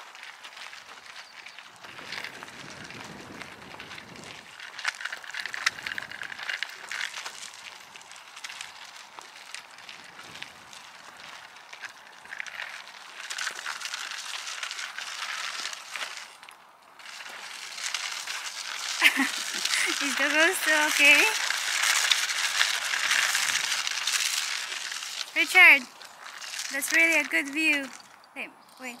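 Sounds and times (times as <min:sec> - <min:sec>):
footsteps crunching on gritty trail: 0:00.0 - 0:29.0.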